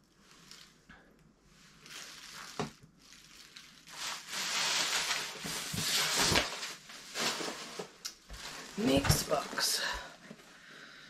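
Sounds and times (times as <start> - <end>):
plastic wrap rustling: 0.0 - 10.3.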